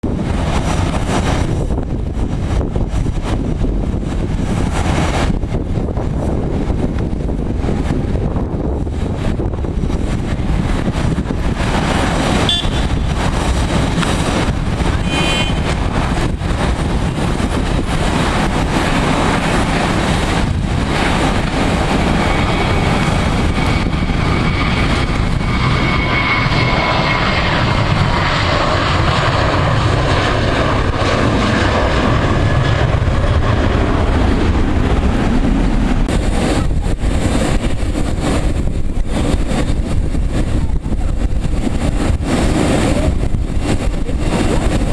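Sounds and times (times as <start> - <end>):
jet engines running: 0.0 - 44.9
wind on microphone: 0.0 - 44.9.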